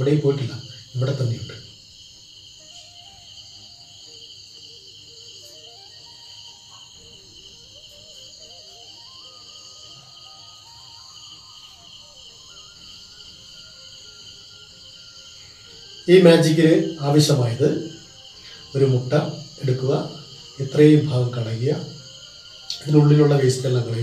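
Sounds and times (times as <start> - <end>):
crickets chirring: 0.0 - 24.0
faint melody: 2.6 - 24.0.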